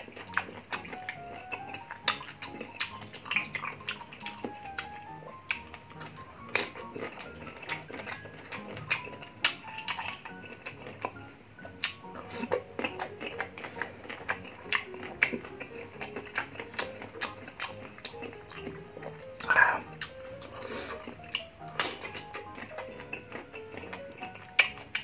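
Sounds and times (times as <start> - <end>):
crunchy chewing of raw mango: 0.0 - 25.0
soft background music: 0.0 - 25.0.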